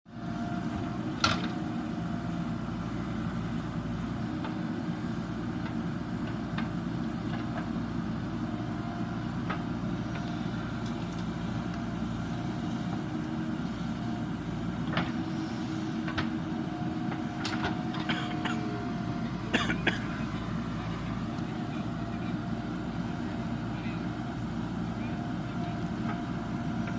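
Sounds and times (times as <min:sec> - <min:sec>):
diesel engine running: 0:00.1 - 0:26.9.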